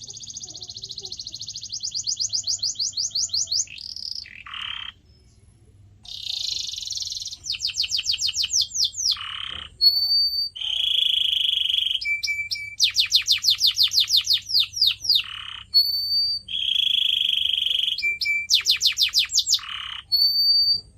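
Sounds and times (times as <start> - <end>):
canary singing: 0.0 - 20.9.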